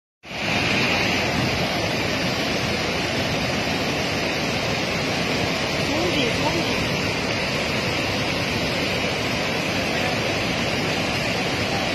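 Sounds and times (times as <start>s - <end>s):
waterfall rushing: 0.3s - 11.9s.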